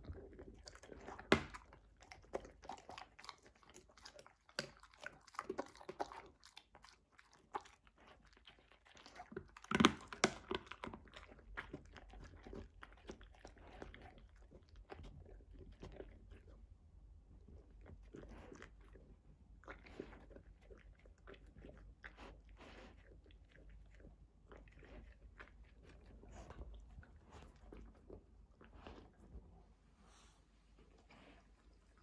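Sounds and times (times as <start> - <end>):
dog chewing a treat: 0.0 - 29.4.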